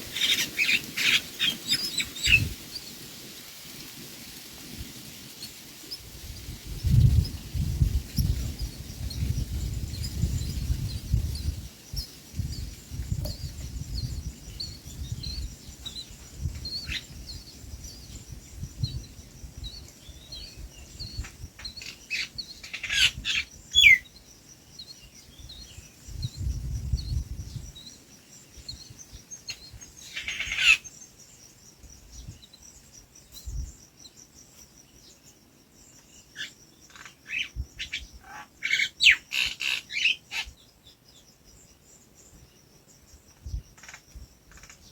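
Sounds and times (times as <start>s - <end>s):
small birds chirping: 0.0s - 3.1s, 5.3s - 44.9s.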